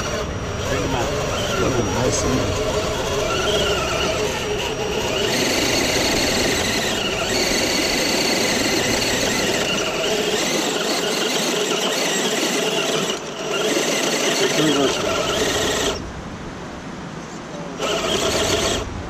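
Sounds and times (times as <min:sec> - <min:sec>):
electric motor and gears whining: 0:00.0 - 0:16.1, 0:17.7 - 0:19.0
steady rushing noise: 0:00.0 - 0:19.0.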